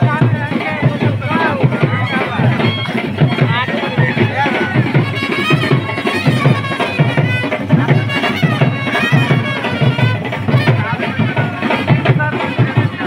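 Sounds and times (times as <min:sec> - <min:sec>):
drums beating steady rhythm: 0:00.0 - 0:13.0
reedy wind instrument: 0:00.0 - 0:13.0.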